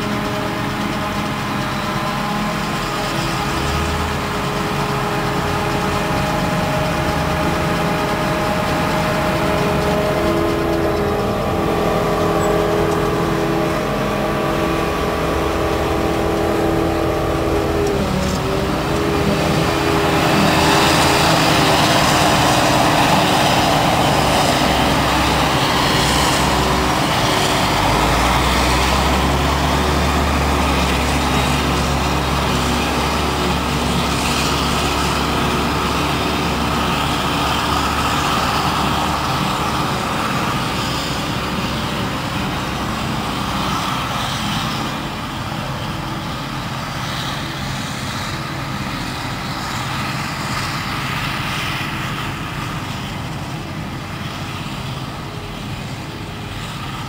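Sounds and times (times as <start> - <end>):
forage harvester chopping grass: 0.0 - 57.0
rushing noise: 0.0 - 57.0
truck engine running: 0.0 - 57.0.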